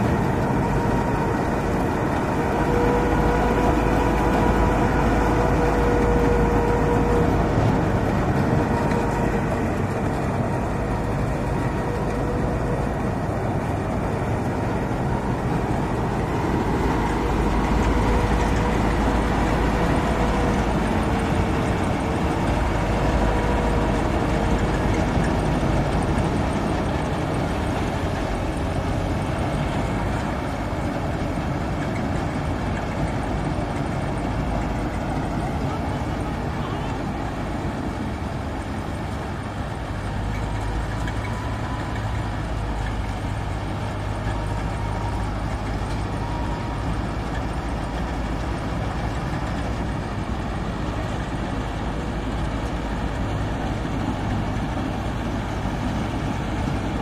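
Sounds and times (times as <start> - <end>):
combine harvester drone: 0.0 - 57.0
steady whine: 0.0 - 57.0.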